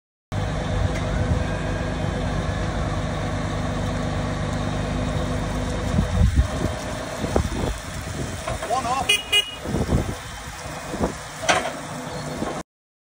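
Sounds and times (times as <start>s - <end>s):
diesel lorry engine running: 0.3s - 12.6s.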